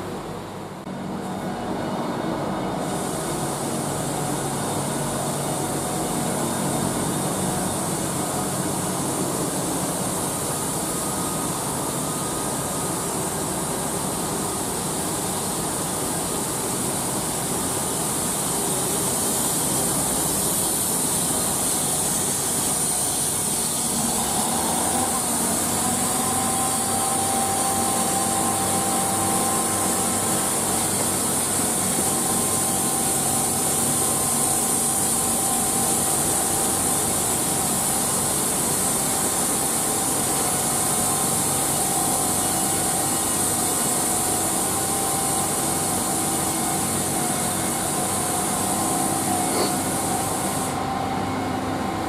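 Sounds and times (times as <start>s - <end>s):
train running: 0.0s - 52.0s.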